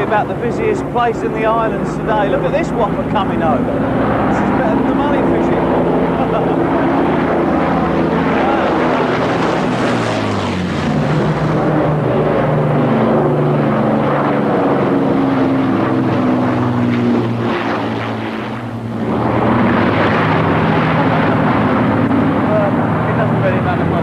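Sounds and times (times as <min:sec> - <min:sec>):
propeller plane droning overhead: 0:00.0 - 0:24.0.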